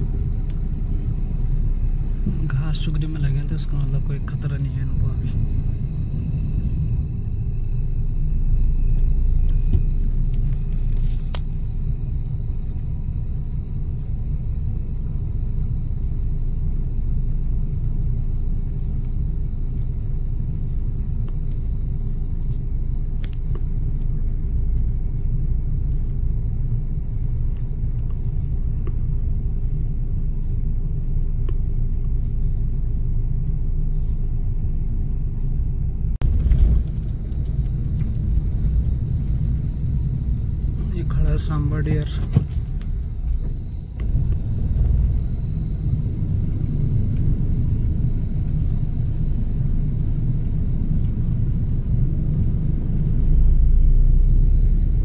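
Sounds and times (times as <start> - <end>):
car engine and tyre rumble: 0.0 - 55.0
faint steady hum: 0.0 - 55.0.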